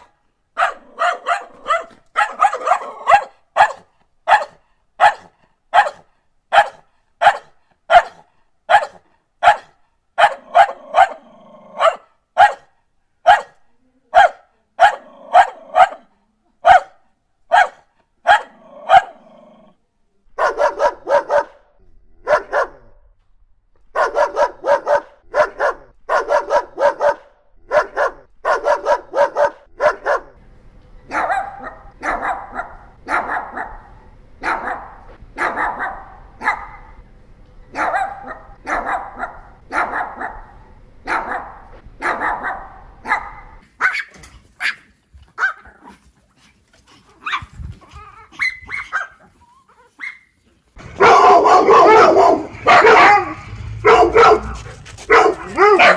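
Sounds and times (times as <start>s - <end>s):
dogs barking: 0.0s - 13.6s, 14.2s - 19.2s, 20.4s - 21.6s, 22.2s - 22.9s, 23.9s - 30.4s, 31.1s - 37.0s, 37.7s - 45.8s, 48.3s - 49.3s, 50.8s - 55.9s
small dog barking steadily: 0.0s - 19.2s, 20.4s - 21.6s, 22.2s - 22.9s, 23.9s - 30.4s, 31.0s - 37.0s, 37.7s - 46.1s, 47.0s - 50.4s, 51.0s - 55.9s.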